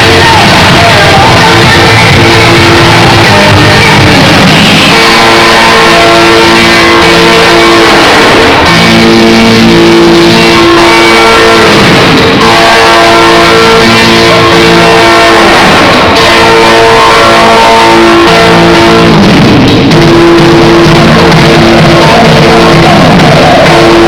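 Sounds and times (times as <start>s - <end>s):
overdriven guitar music: 0.0s - 24.0s.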